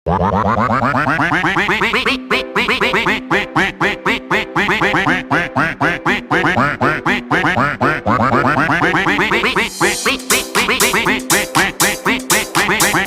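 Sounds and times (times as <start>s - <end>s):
rapid quacking: 0.1s - 13.0s
music with held notes: 2.1s - 13.0s.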